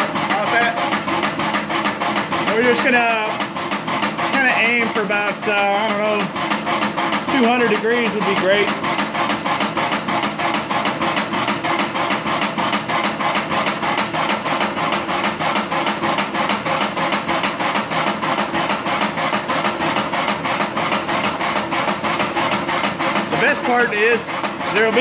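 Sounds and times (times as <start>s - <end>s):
coffee roaster drum turning: 0.0s - 25.0s.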